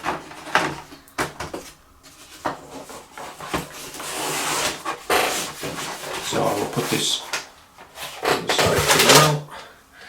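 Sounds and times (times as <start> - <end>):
packaging rustling: 0.0 - 9.4.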